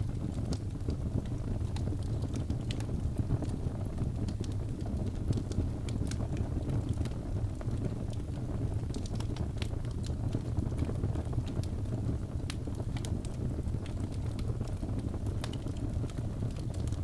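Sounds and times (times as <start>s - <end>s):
crackling fire: 0.0s - 17.0s.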